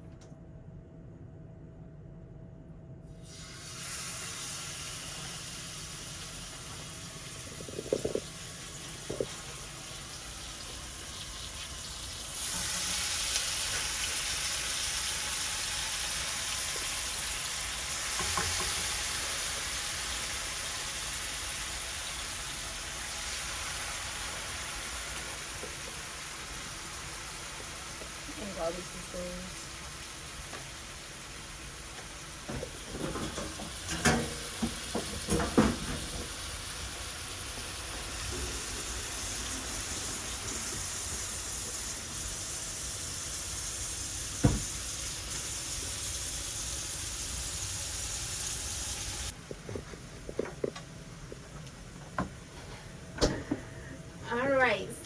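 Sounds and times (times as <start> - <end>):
chicken sizzling in frying pan: 3.3 - 49.4.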